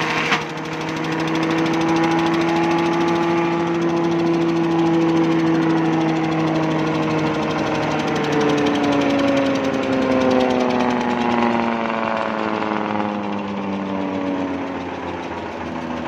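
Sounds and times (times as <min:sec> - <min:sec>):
silage chopper engine running: 0:00.0 - 0:16.0.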